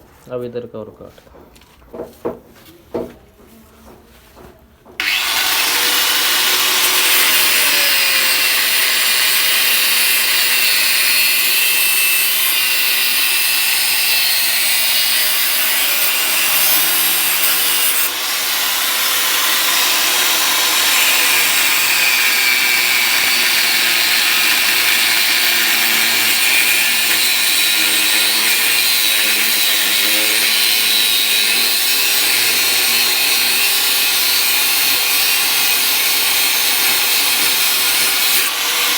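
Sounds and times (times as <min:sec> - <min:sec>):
angle grinder cutting metal pipe: 0:05.0 - 0:38.9.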